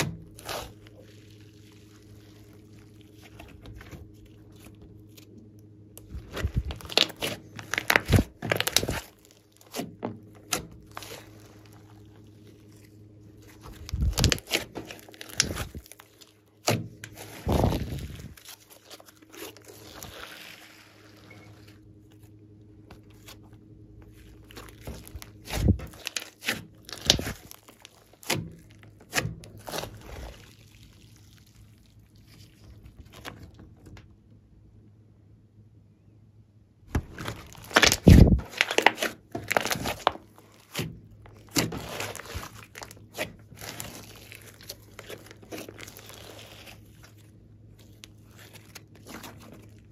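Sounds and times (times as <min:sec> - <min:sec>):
slime crackling and popping: 0:00.0 - 0:05.4, 0:06.0 - 0:21.8, 0:22.9 - 0:33.6, 0:36.9 - 0:49.9.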